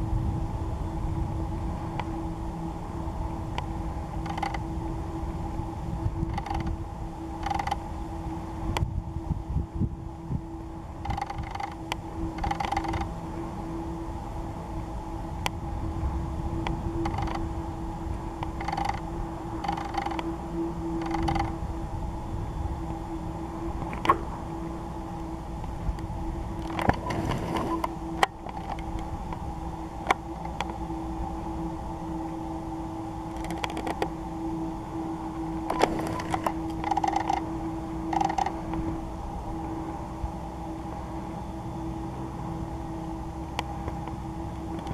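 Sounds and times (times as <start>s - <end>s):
low hum and rumble: 0.0s - 44.9s
camera rig creaking and whirring: 1.5s - 44.9s.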